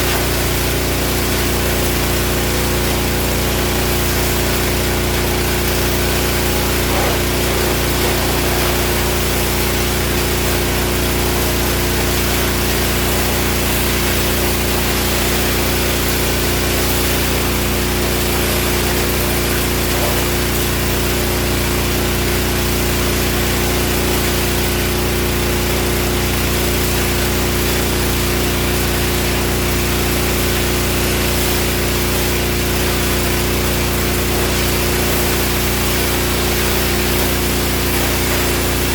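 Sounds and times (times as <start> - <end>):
pressure washer engine droning: 0.0 - 38.9
water spraying hiss: 0.0 - 38.9.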